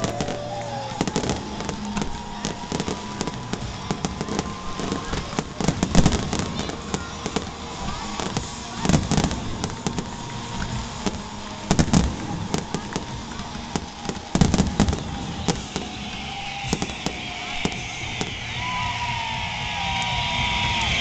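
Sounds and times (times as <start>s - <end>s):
fireworks bangs and booms: 0.0s - 21.0s.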